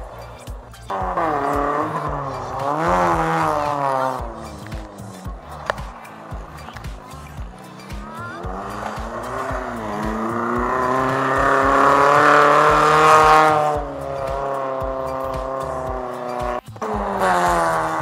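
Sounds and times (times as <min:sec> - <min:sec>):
background music with beat: 0:00.0 - 0:18.0
rally car engine revving: 0:00.0 - 0:18.0.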